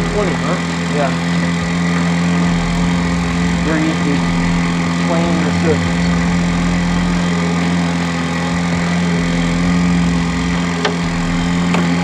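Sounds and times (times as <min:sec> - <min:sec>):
small outboard motor running: 0:00.0 - 0:12.0.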